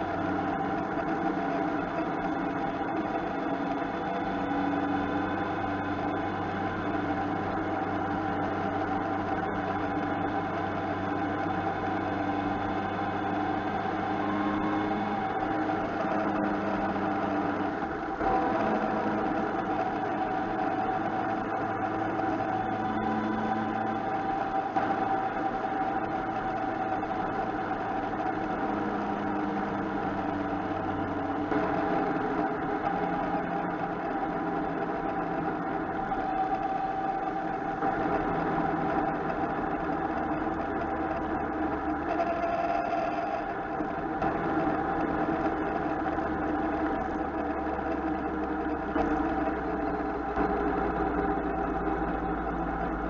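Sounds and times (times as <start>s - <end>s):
motorcycle engine droning: 0.0s - 53.0s
wind and road noise: 0.0s - 53.0s.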